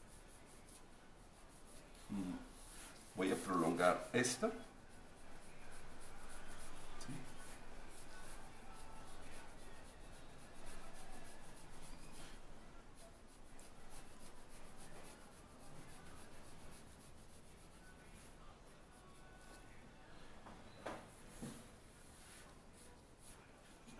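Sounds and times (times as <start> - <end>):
pencil scratching on paper: 0.0 - 19.5
hand rubbing over paper: 0.0 - 19.7, 21.2 - 23.9.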